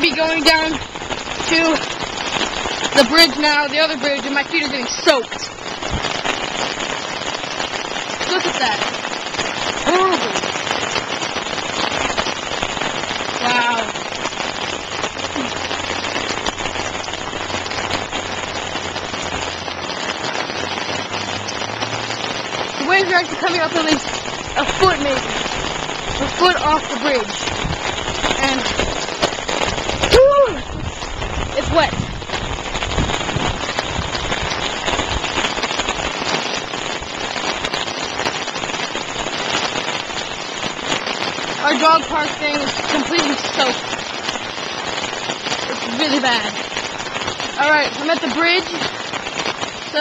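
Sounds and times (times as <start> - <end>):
heavy rain on paved road: 0.0 - 50.0.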